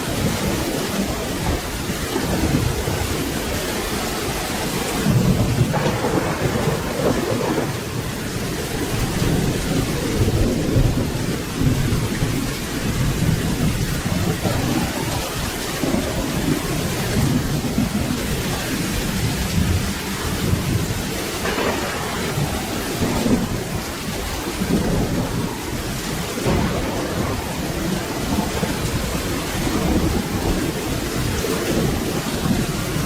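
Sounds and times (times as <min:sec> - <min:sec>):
low rolling thunder: 0:00.0 - 0:33.0
steady rain: 0:00.0 - 0:33.0.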